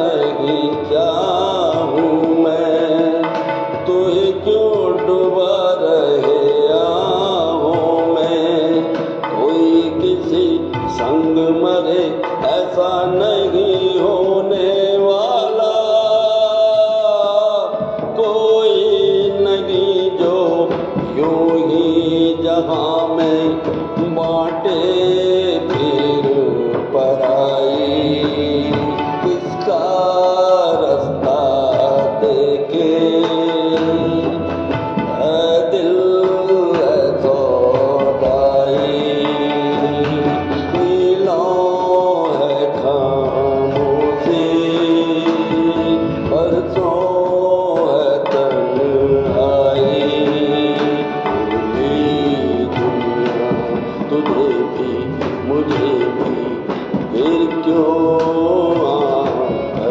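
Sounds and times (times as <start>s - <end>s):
steady percussion: 0.0s - 59.9s.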